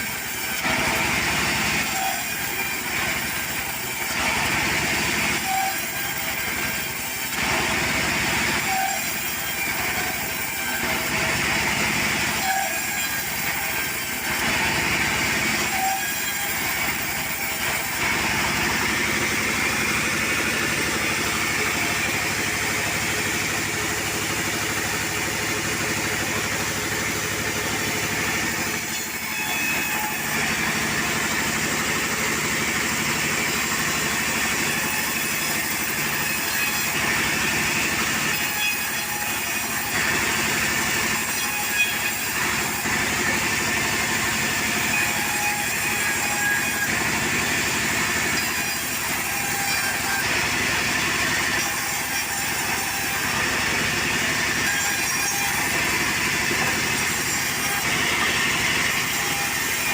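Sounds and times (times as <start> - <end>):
sawmill cutting timber: 0.0 - 59.9.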